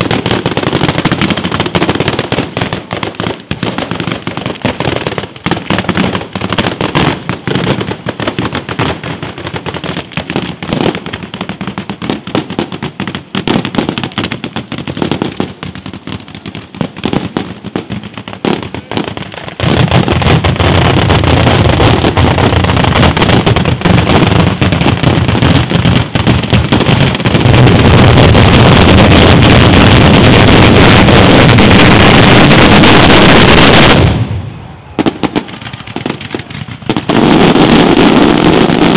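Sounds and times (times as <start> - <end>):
fireworks crackling bangs: 0.0 - 38.9.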